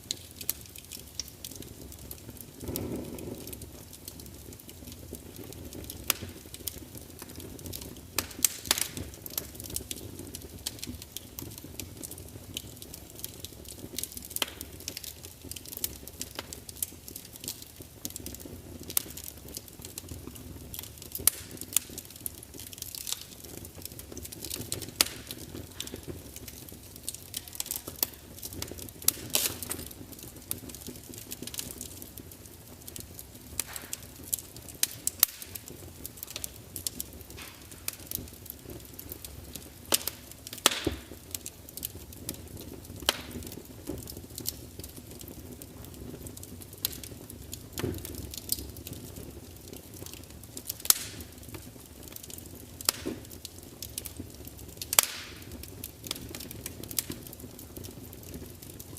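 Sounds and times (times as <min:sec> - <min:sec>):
flames rumbling and hissing: 0:00.0 - 0:58.9
wood fire crackling: 0:00.0 - 0:58.9
sharp pops and snaps: 0:00.1 - 0:32.2, 0:32.8 - 0:58.5.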